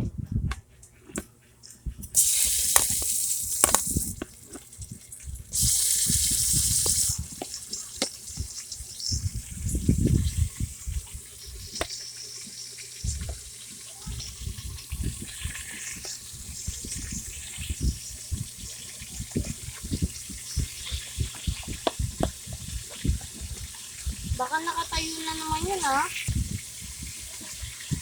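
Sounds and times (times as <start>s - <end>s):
chicken frying in hot oil: 2.2s - 28.0s.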